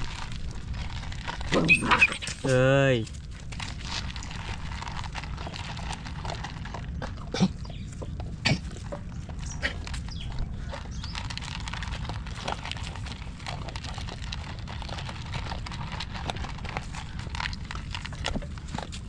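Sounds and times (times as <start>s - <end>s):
dogs crunching kibble: 0.0s - 19.0s
low steady rumble: 0.0s - 19.0s.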